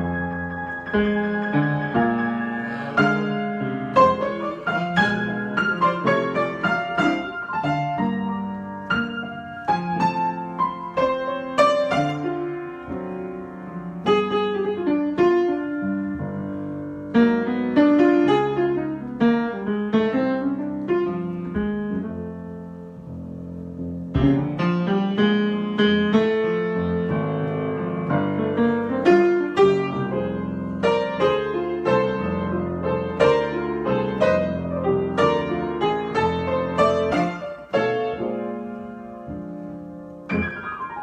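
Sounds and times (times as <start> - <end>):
solo piano: 0.0 - 41.0.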